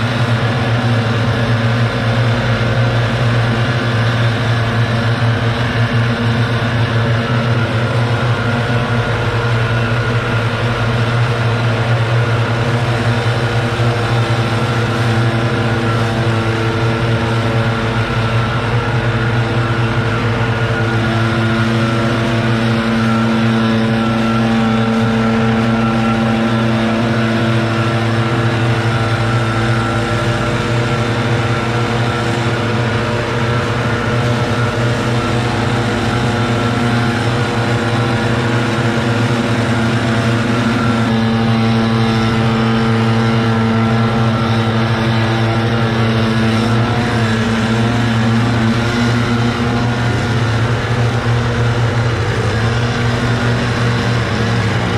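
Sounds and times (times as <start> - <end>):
leaf blower engine running: 0.0 - 54.9.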